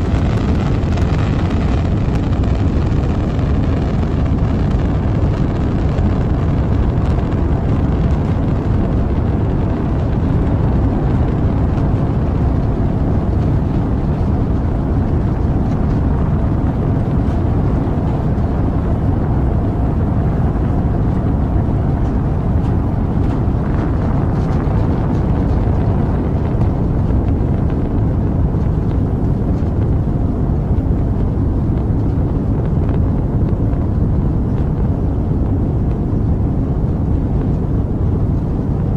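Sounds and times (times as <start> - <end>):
rocket engines roaring: 0.0 - 38.9.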